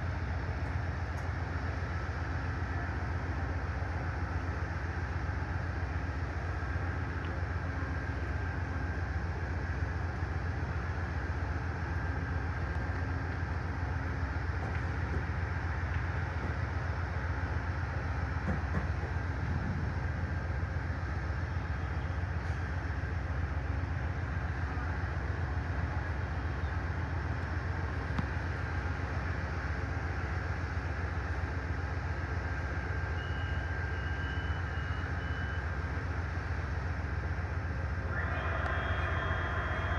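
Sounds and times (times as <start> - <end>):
passenger train running: 0.0 - 39.9.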